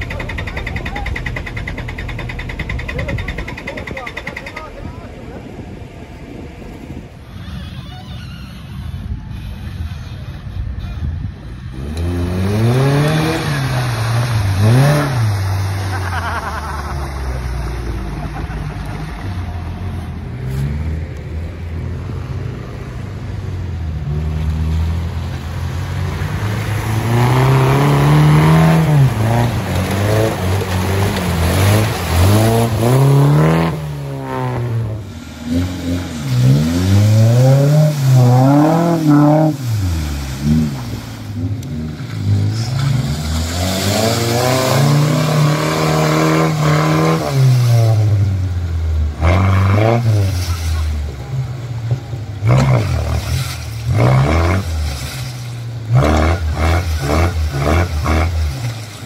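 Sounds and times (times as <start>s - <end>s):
off-road engine revving: 0.0s - 59.0s
vehicle driving through mud and water: 0.0s - 59.0s.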